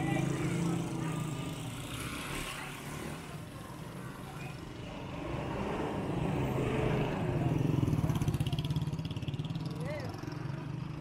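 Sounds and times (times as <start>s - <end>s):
small motorcycle engines passing: 0.0s - 11.0s
traffic noise: 0.0s - 11.0s.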